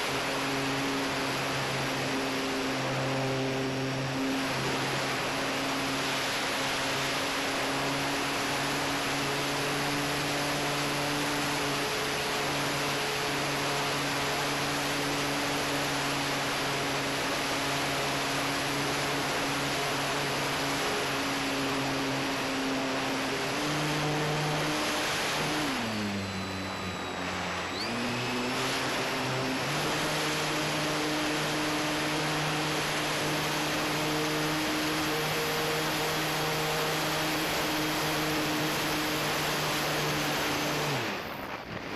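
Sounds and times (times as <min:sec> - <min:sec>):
electric motor and propeller: 0:00.0 - 0:41.9.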